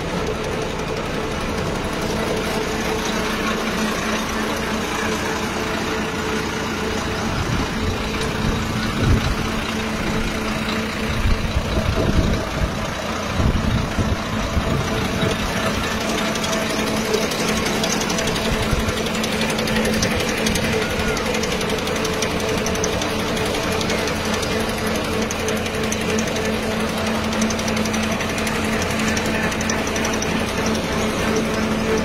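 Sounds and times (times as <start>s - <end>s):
large engine idling: 0.0s - 32.0s.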